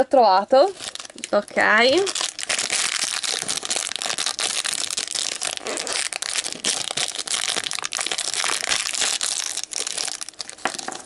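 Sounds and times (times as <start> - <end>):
plastic packet crinkling: 0.6 - 11.0.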